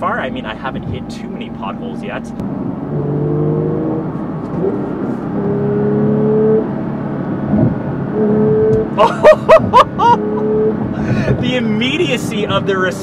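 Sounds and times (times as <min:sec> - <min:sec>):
car engine accelerating: 0:00.2 - 0:13.0.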